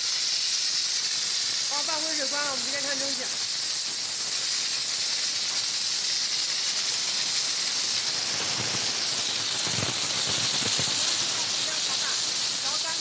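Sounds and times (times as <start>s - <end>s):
steam hissing from nozzle: 0.0s - 13.0s.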